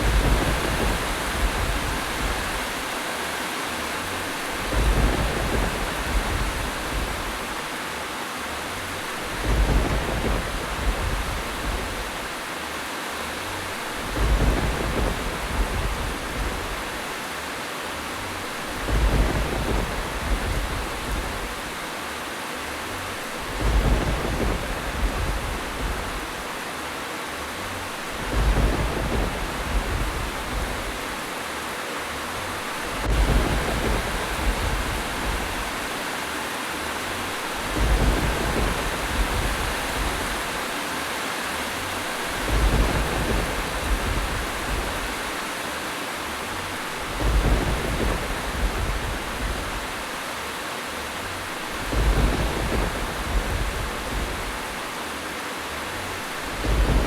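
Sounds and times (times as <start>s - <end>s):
low thunder rumbles: 0.0s - 3.0s, 4.0s - 7.9s, 8.6s - 12.5s, 13.2s - 17.3s, 18.0s - 21.9s, 22.8s - 26.8s, 27.5s - 31.4s, 32.2s - 36.1s, 36.7s - 40.8s, 41.7s - 45.6s, 46.4s - 50.3s, 51.0s - 55.0s, 55.6s - 57.0s
heavy rain hiss: 0.0s - 57.0s.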